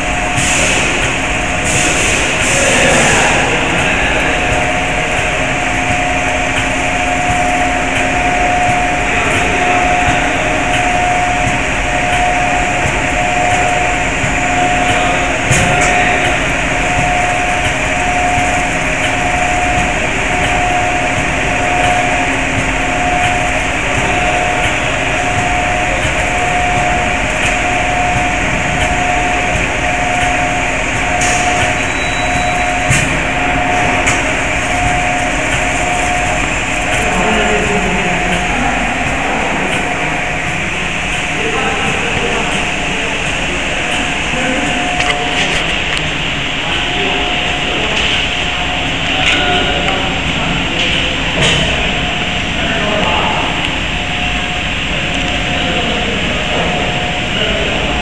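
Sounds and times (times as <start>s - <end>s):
low hum: 0.0s - 58.0s
machinery whirring: 0.0s - 58.0s
pulsing high tone: 0.0s - 58.0s.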